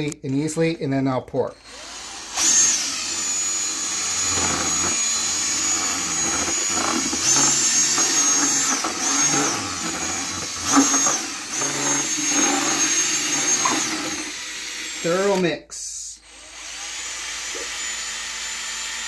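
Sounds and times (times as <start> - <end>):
electric drill mixing: 1.5 - 19.0.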